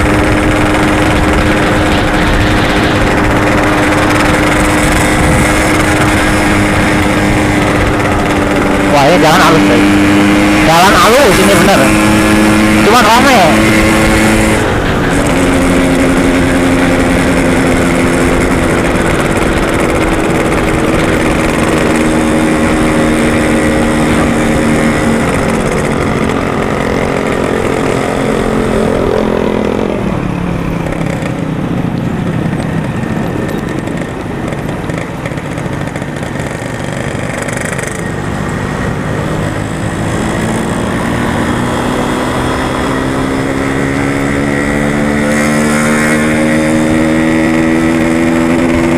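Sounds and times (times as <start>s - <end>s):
two-stroke motorcycle engine running: 0.0s - 48.9s.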